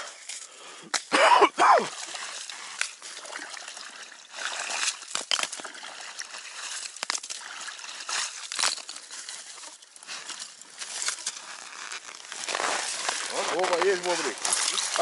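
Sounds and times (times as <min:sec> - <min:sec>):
hand sloshing in icy water: 0:01.2 - 0:15.0.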